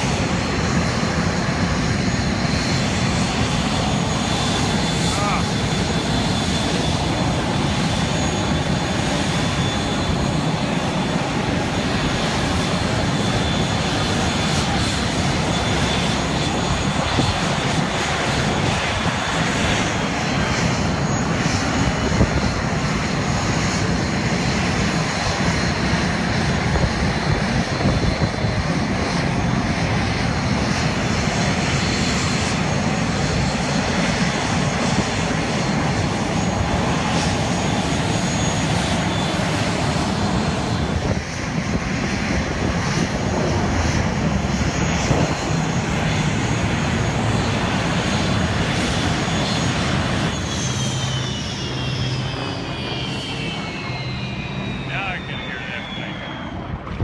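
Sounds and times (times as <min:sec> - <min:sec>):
aircraft engine overhead: 0:00.0 - 0:57.0.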